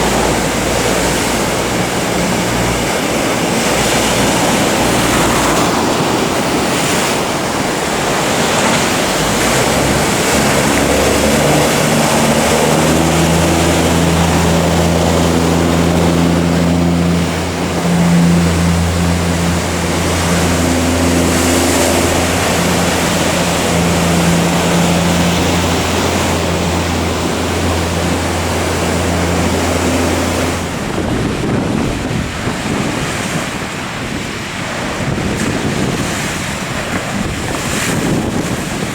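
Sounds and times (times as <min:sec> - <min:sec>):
boat engine droning: 0:00.0 - 0:38.9
ocean surf: 0:00.0 - 0:38.9
wind noise on microphone: 0:00.0 - 0:38.9.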